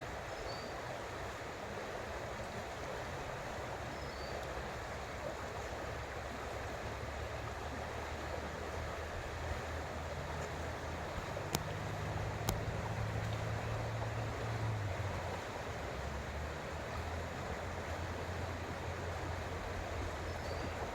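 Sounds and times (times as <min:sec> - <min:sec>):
creek water rushing: 0:00.0 - 0:20.9
low steady hum: 0:00.1 - 0:20.9.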